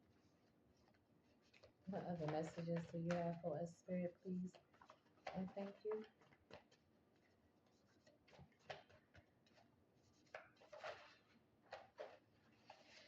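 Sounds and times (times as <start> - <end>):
cards rustling and tapping: 0.3 - 3.6, 4.3 - 13.0.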